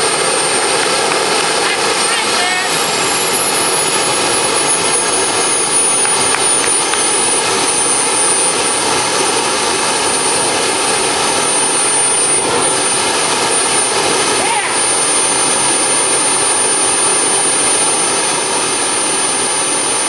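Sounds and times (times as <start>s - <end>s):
high steady turbine whine: 0.0s - 20.0s
jet engine exhaust rush: 0.0s - 20.0s.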